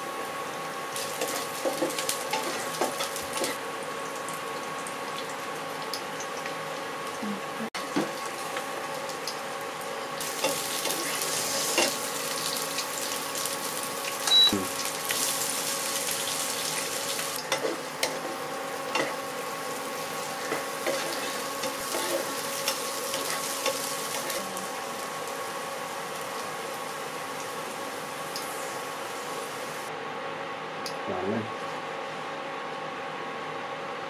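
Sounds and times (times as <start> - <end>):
vegetables sizzling in oil: 0.0 - 7.2, 7.8 - 29.9.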